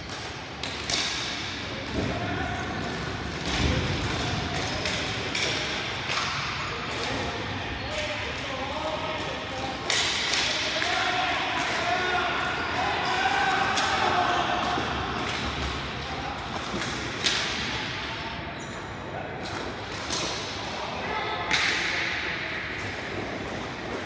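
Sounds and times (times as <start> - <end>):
hockey sticks hitting ball: 0.0 - 18.1, 19.4 - 20.8, 21.4 - 24.0.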